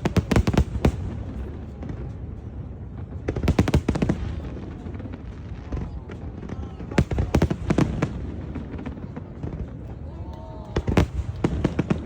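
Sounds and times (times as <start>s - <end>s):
fireworks bursting in sharp bangs: 0.0s - 12.0s
volley of firework cracks: 0.0s - 12.0s.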